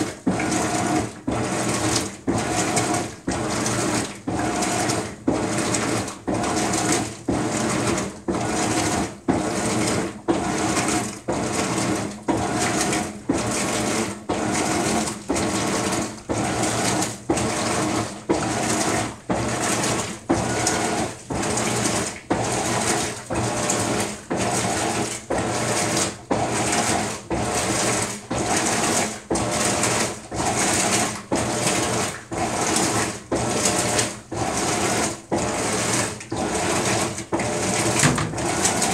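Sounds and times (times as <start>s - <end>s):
washing machine agitating: 0.0s - 38.9s.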